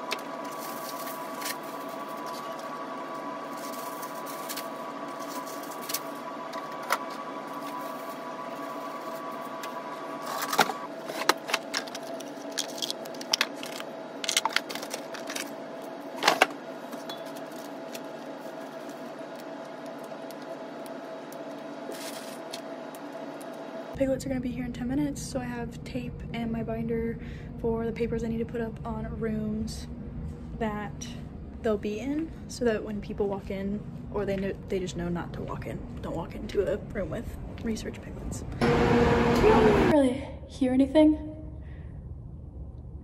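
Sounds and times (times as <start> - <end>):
hum of lab equipment: 0.0 - 43.0.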